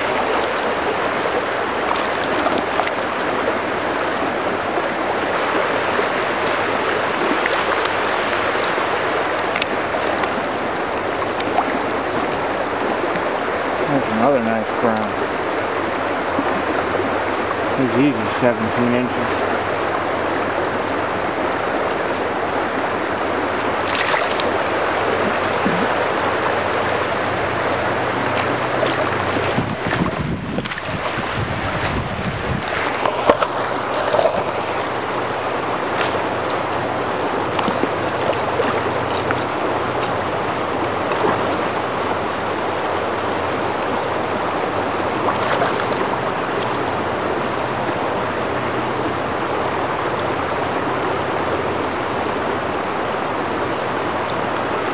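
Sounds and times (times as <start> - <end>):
river rushing over stones: 0.0 - 54.9.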